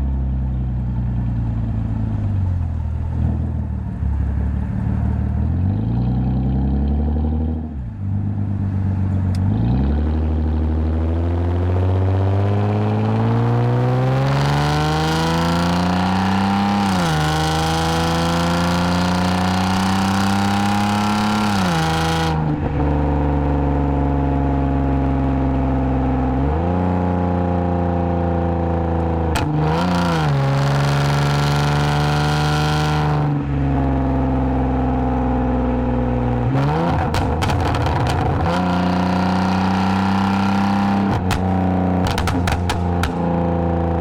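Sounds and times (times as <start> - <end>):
car engine and exhaust droning: 0.0 - 44.0.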